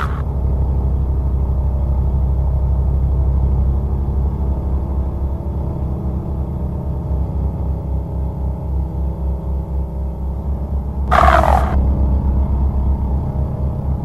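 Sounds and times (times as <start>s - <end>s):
low droning rumble: 0.0s - 14.0s.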